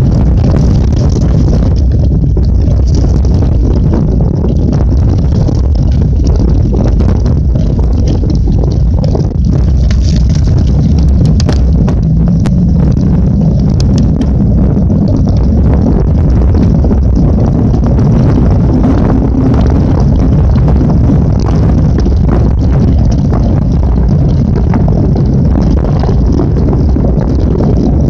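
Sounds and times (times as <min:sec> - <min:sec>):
sharp clicks and knocks: 0:00.0 - 0:27.5
bike tyre and frame rattle: 0:00.0 - 0:28.0
wind rumble on microphone: 0:00.0 - 0:28.0.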